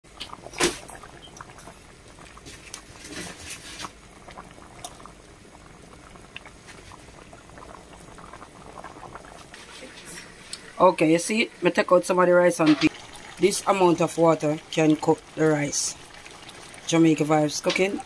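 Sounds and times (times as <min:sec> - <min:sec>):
pot boiling and bubbling: 0:00.0 - 0:18.0.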